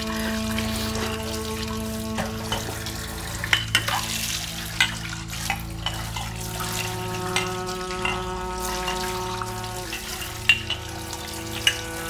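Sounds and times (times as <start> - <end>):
background music drone: 0.0 - 12.0
water splashing: 0.0 - 12.0.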